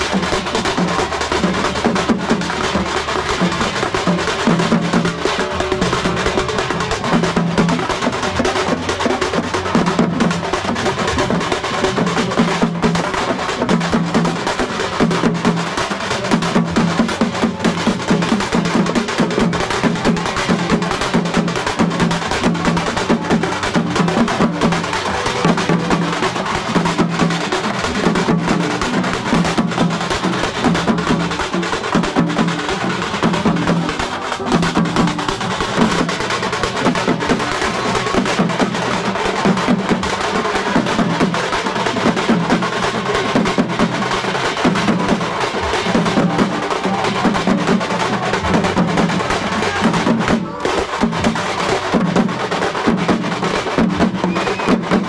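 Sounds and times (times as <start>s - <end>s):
frame drums and barrel drums beaten: 0.0s - 55.0s.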